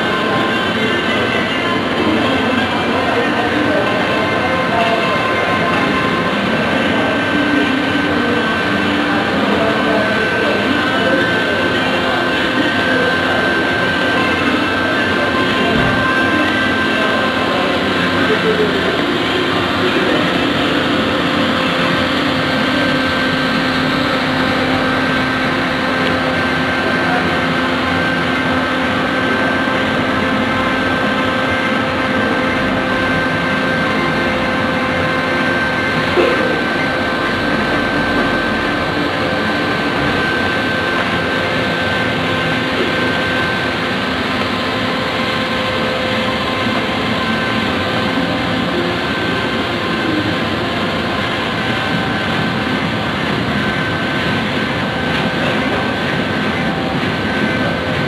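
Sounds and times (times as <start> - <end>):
hot-air blower hissing: 0.0 - 58.0.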